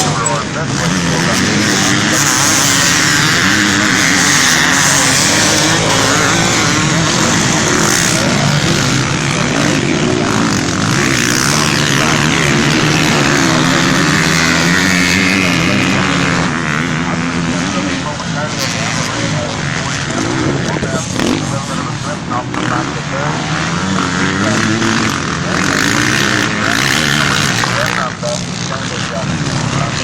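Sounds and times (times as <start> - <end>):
motocross bike engines revving: 0.0 - 30.0.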